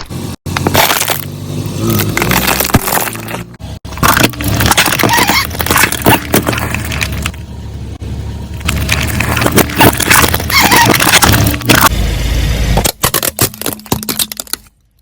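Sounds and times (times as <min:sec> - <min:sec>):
car engine: 0:00.0 - 0:15.0
car crunching brittle objects: 0:00.5 - 0:07.4, 0:08.6 - 0:11.9, 0:12.8 - 0:15.0.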